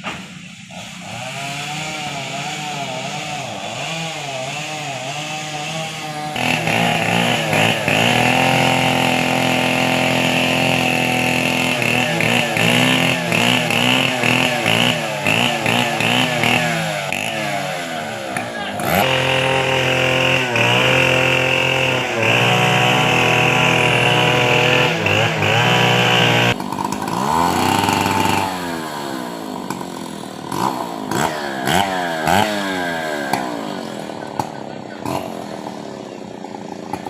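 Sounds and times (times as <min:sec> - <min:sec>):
chainsaw engine revving: 0:00.2 - 0:37.0.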